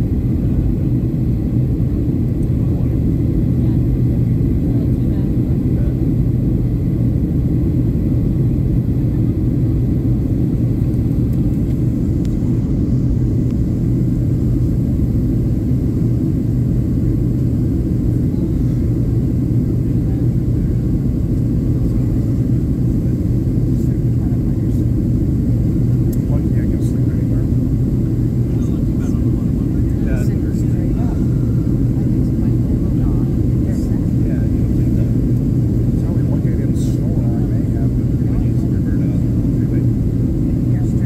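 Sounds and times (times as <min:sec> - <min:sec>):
airliner cabin roar: 0:00.0 - 0:41.0.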